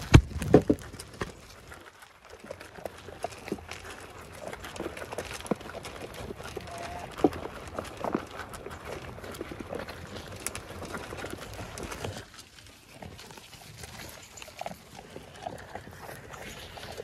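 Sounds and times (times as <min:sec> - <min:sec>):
sheep feeding at trough: 0:00.0 - 0:17.0.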